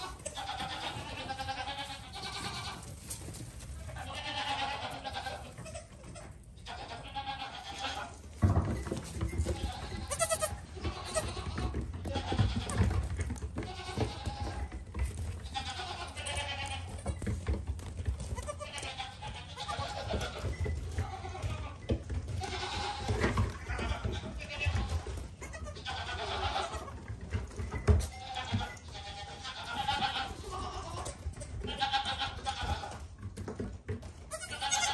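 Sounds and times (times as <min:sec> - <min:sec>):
goat kids bleating: 0:00.0 - 0:03.1, 0:03.7 - 0:08.3, 0:09.3 - 0:17.2, 0:18.2 - 0:27.2, 0:27.9 - 0:33.3, 0:34.2 - 0:34.9
hooves clattering on wood and concrete: 0:00.0 - 0:34.9.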